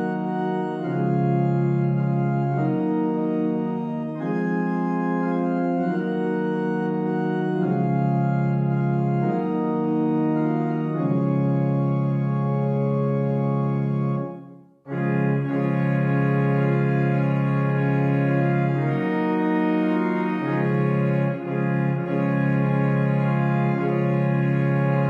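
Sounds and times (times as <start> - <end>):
pipe organ sustained chords: 0.0 - 25.0.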